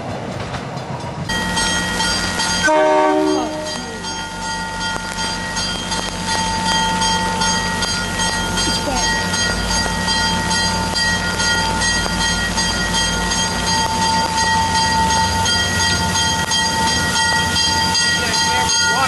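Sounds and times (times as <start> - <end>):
railcars rumbling past: 0.0 - 19.0.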